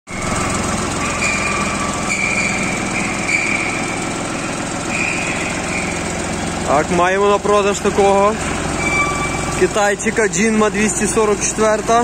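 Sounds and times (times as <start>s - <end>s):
high whine: 0.1s - 11.8s
tractor diesel engine running: 0.1s - 12.0s.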